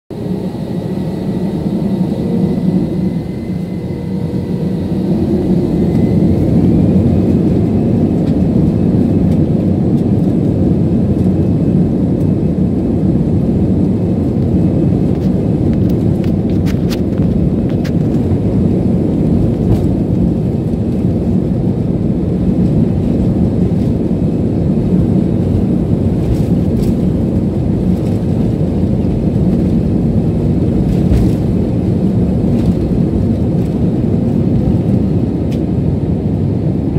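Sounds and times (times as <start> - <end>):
faint engine whine: 0.1 - 36.9
jet engines rumbling in cabin: 0.1 - 36.9.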